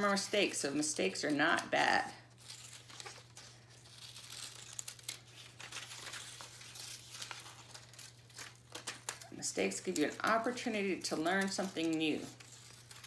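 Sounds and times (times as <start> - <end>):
paper crinkling: 0.0 - 13.0.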